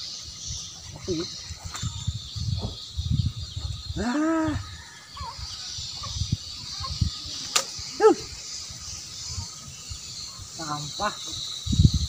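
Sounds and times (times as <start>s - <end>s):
steady high buzz: 0.0s - 12.0s.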